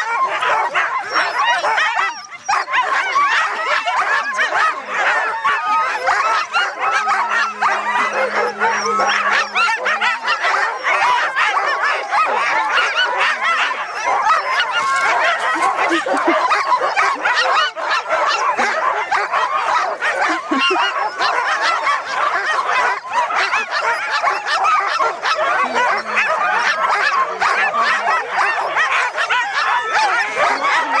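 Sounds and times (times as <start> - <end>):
dogs barking and yelping: 0.0 - 31.0.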